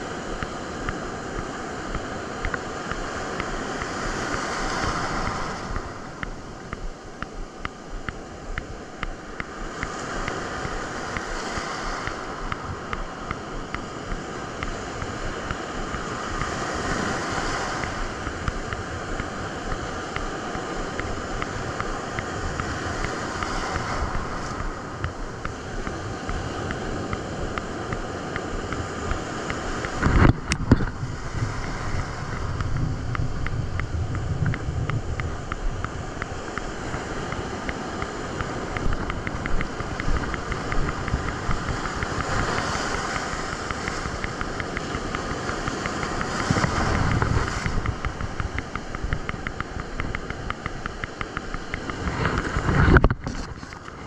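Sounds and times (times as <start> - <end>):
surf breaking on beach: 0.0 - 54.0
wind on microphone: 0.0 - 54.0.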